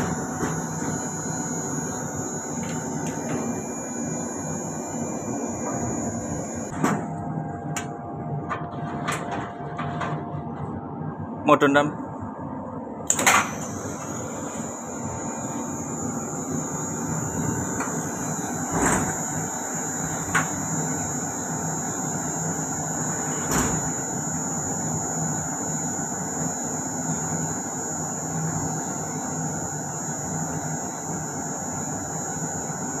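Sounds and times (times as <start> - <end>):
lift motor humming and whining: 0.0 - 33.0.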